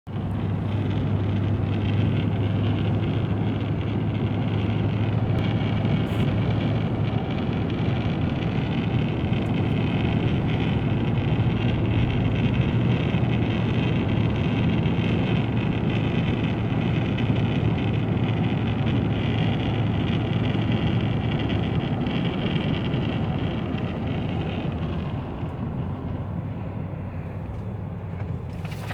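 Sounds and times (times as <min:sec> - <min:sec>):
road and engine drone: 0:00.0 - 0:28.9
wind rushing past car window: 0:00.1 - 0:28.9.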